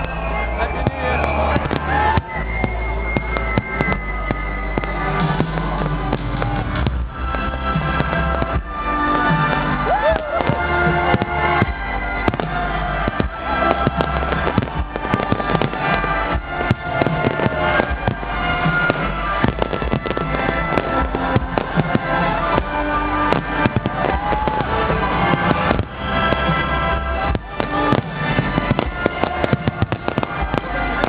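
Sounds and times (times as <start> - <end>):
fireworks bangs and crackles: 0.0 - 31.0
loud music: 0.0 - 31.0.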